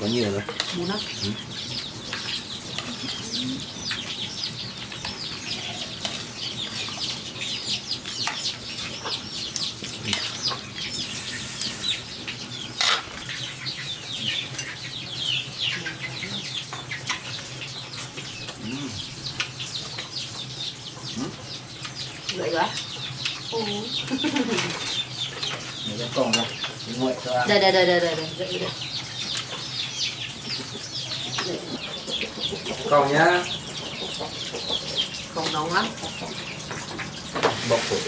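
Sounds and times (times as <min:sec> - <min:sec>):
chicks chirping and peeping: 0:00.0 - 0:38.0.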